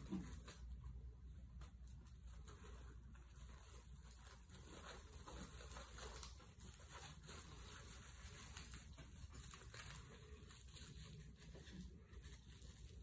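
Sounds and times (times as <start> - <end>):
low room hum: 0.0 - 13.0
leaves and plastic film crinkling: 1.6 - 13.0.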